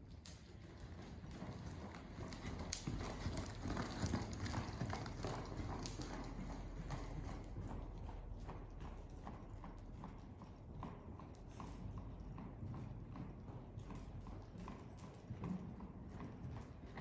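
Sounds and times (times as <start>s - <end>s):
horse hoofbeats on sand: 0.2s - 17.0s.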